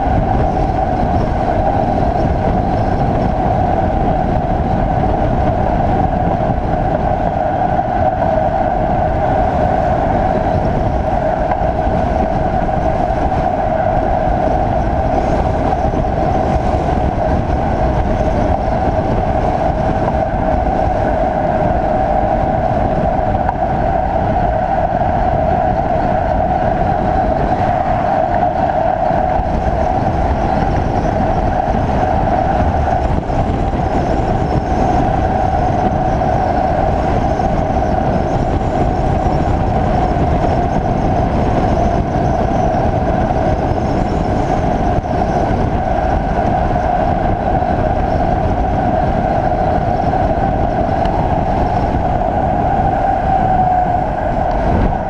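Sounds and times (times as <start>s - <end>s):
bike tyre hum on asphalt: 0.0s - 55.0s
rushing wind noise: 0.0s - 55.0s.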